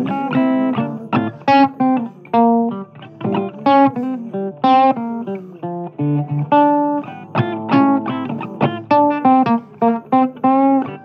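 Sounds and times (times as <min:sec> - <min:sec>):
blues guitar playing: 0:00.0 - 0:11.0.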